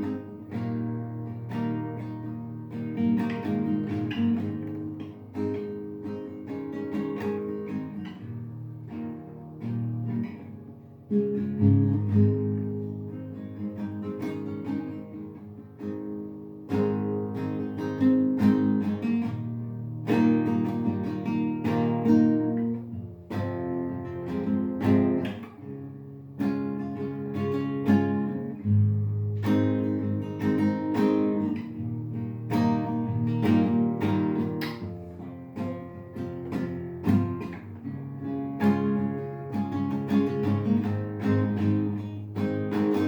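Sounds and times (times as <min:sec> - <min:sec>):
acoustic guitar chords: 0:00.0 - 0:43.0.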